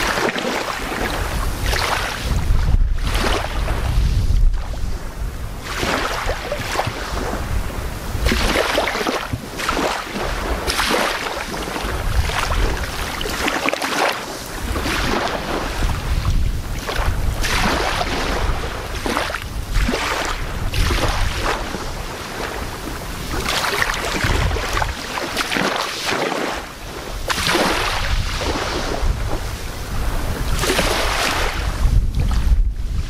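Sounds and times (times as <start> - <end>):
small waves lapping on beach: 0.0 - 33.0
wind rumble on microphone: 0.0 - 33.0.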